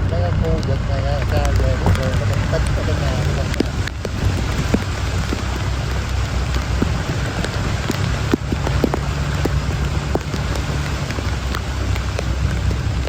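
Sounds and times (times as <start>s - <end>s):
heavy rain falling: 0.0s - 13.0s
low rumble: 0.0s - 13.0s.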